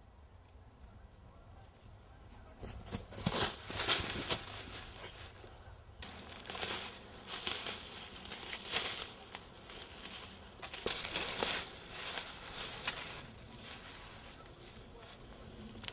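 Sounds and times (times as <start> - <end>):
footsteps crunching dry leaves: 2.8 - 15.9.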